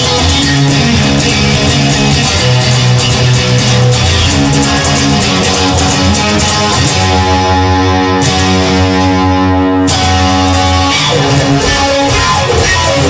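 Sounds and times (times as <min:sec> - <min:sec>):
guitar song with bass and beat: 0:00.0 - 0:13.0.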